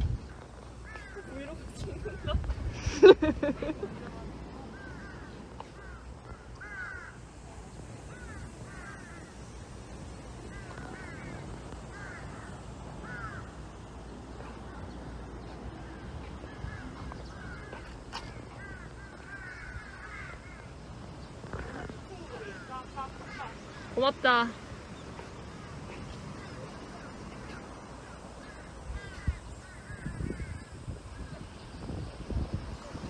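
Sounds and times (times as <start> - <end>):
birds calling: 0.0 - 32.1.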